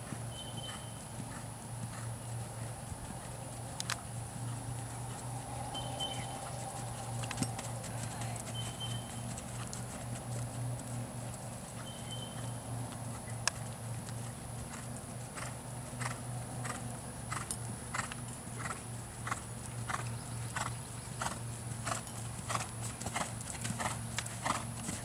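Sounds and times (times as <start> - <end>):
horse hoofbeats on sand: 0.0 - 25.0
steady low hum: 0.0 - 25.0.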